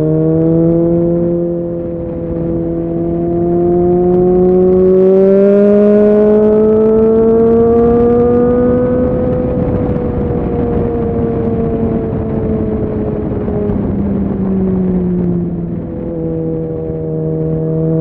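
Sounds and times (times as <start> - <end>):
motorcycle engine under way: 0.0 - 18.0
wind rush: 0.0 - 18.0.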